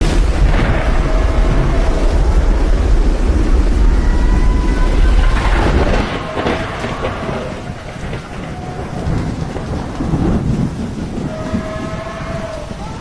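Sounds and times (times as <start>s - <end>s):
heavy low storm rumble: 0.0s - 13.0s
wind and rain hiss: 0.0s - 13.0s.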